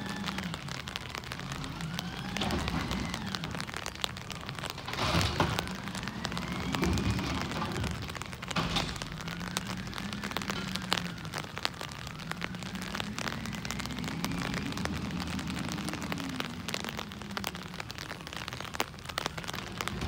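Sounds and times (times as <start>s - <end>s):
cart clattering: 0.0s - 20.0s
garbage truck engine: 0.0s - 20.0s
light rain pattering: 0.0s - 20.0s.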